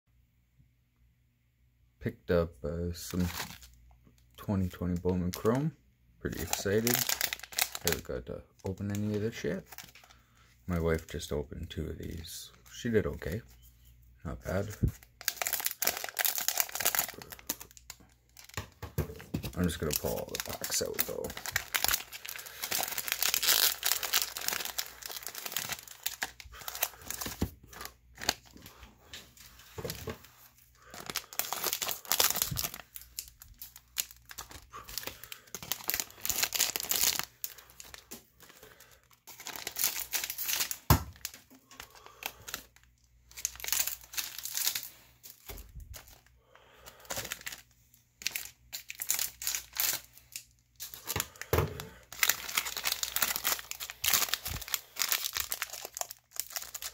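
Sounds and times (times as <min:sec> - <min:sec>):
plastic wrapping crinkling and tearing: 0:02.9 - 0:05.7, 0:06.3 - 0:13.4, 0:14.4 - 0:56.9.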